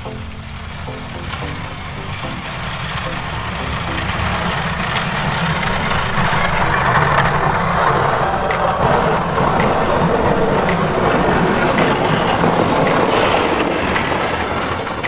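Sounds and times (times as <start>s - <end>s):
snow pushed by plow blade: 0.0s - 15.0s
truck engine running: 0.0s - 15.0s.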